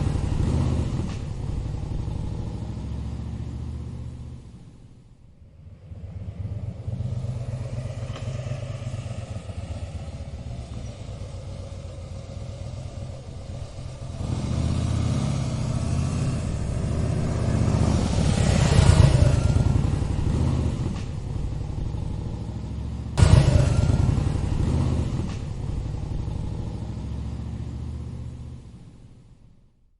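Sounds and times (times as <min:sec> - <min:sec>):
motorcycle engine running and revving: 0:00.0 - 0:04.3, 0:05.7 - 0:28.7.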